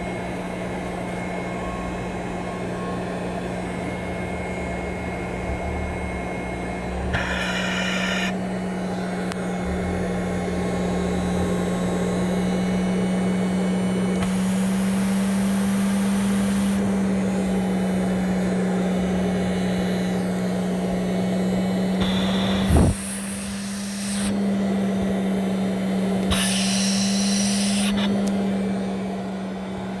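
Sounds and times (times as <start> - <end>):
blower humming: 4.4 - 30.0.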